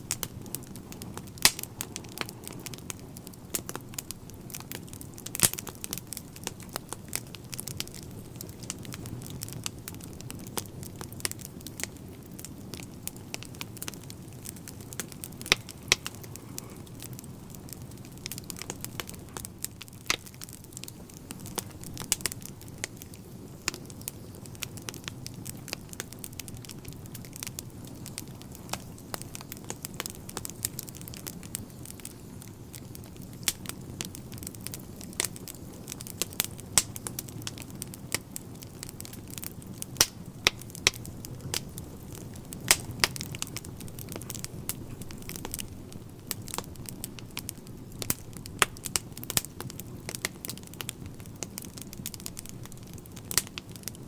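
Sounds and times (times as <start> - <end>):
burning logs crackling and popping: 0.0 - 54.0
low rumble of flames: 0.0 - 54.0.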